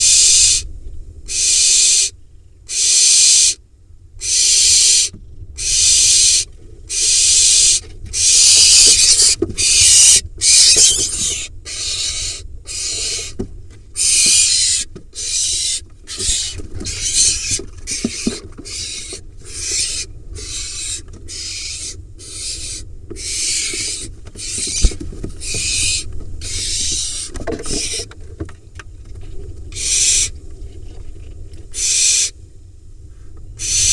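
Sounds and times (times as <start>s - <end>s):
owl nestling screeching: 0.0s - 0.7s, 1.3s - 2.1s, 2.7s - 3.6s, 4.2s - 28.1s, 29.7s - 30.3s, 31.7s - 32.3s, 33.6s - 33.9s.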